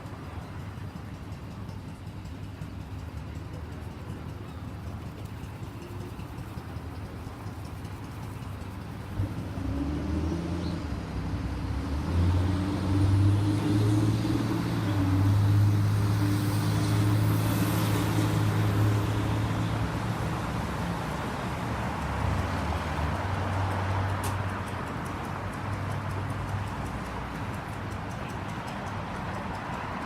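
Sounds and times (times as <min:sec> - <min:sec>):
large engine humming: 0:00.0 - 0:30.0
urban noise: 0:00.0 - 0:30.0.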